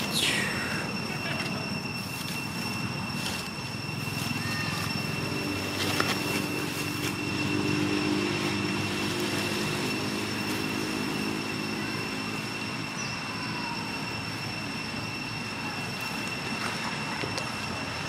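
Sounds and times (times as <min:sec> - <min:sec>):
high-pitched whine: 0:00.0 - 0:18.0
low engine hum: 0:00.0 - 0:18.0.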